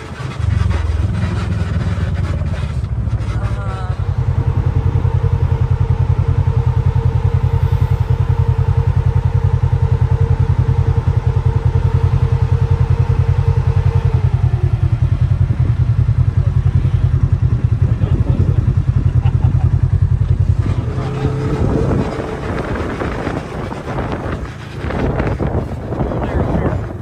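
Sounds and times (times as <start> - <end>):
utility vehicle engine idling: 0.0 - 27.0
vehicle engine driving away: 0.0 - 27.0.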